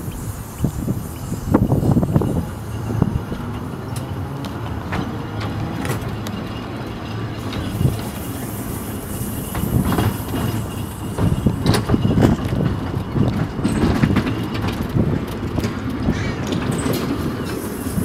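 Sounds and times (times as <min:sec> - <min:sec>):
sharp clicks of tram wheels: 0:00.0 - 0:18.0
tram wheels rumbling on rail: 0:00.0 - 0:18.0.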